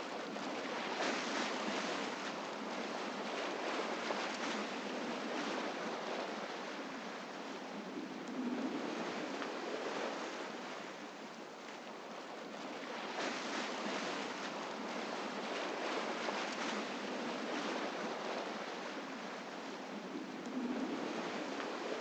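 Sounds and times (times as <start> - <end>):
sea waves and rushing water: 0.0 - 22.0
wind: 0.0 - 22.0.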